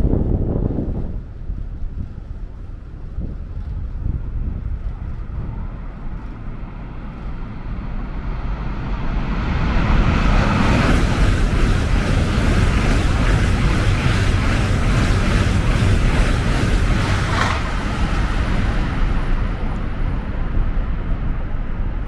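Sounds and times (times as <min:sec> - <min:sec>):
electric train rumbling: 0:00.0 - 0:22.0
rushing noise: 0:00.0 - 0:22.0.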